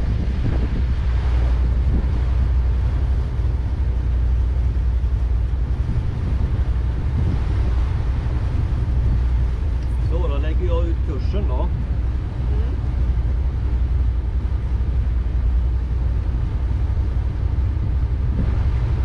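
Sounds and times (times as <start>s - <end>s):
motorboat engine drone: 0.0s - 19.0s
water along hull: 0.0s - 19.0s
wind on microphone: 0.0s - 19.0s.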